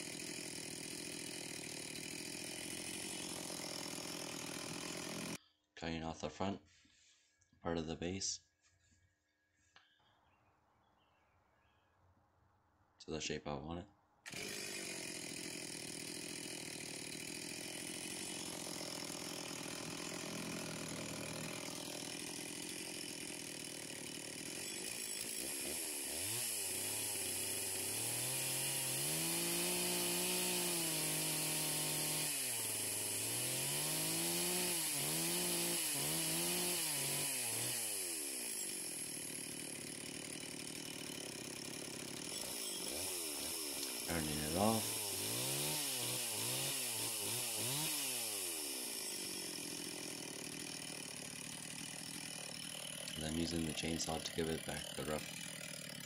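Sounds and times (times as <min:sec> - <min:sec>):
chainsaw revving and idling: 0:00.0 - 0:05.4, 0:14.3 - 0:56.0.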